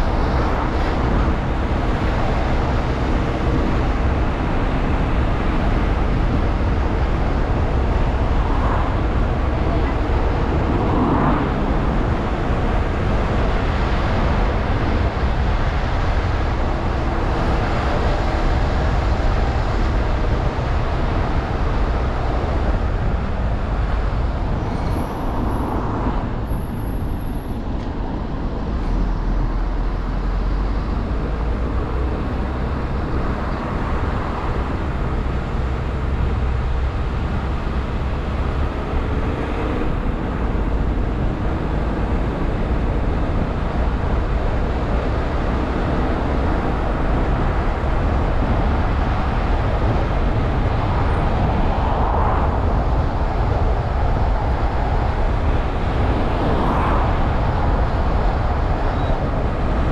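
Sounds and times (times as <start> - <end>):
car tyre and road noise: 0.0 - 59.9.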